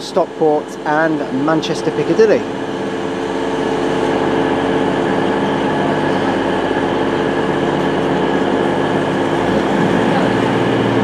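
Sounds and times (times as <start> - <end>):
train diesel engines running: 0.0 - 11.0.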